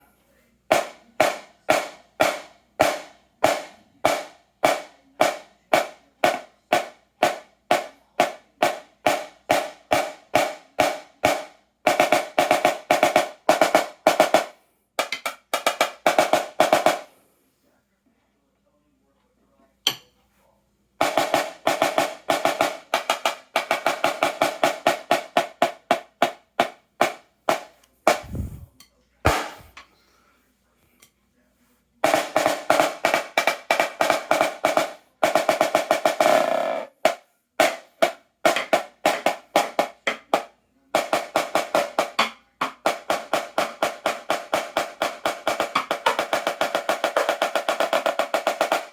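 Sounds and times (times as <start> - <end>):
snare drum strokes and rolls: 0.7 - 17.1, 21.0 - 28.7, 29.3 - 29.7, 32.0 - 40.4, 41.0 - 48.9.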